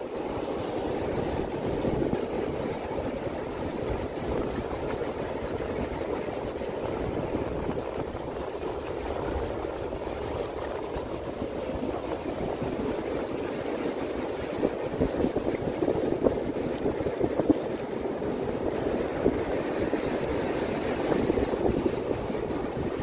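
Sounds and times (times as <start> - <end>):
breaking surf roar: 0.0 - 23.0
wind rumbling on microphone: 0.0 - 23.0.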